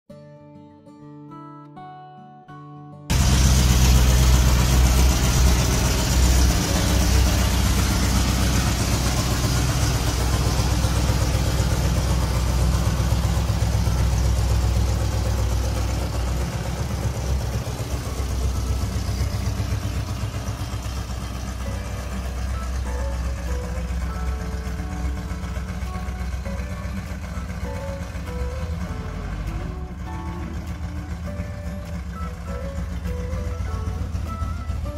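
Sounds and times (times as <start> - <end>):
car engine running: 3.1 - 34.9.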